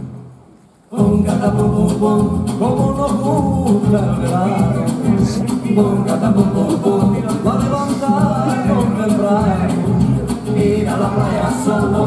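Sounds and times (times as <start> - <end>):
children's dance song: 0.8 - 12.0.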